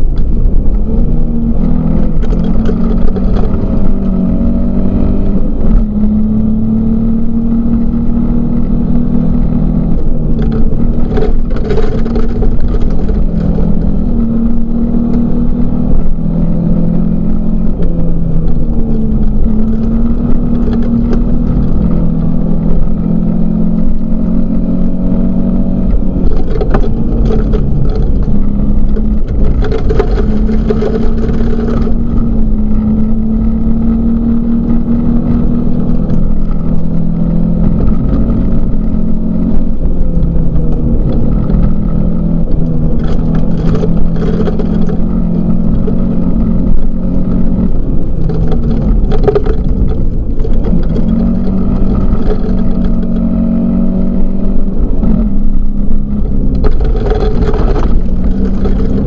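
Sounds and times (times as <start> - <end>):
car engine revving through gears: 0.0 - 59.0
gravel road noise bursts: 0.0 - 59.0.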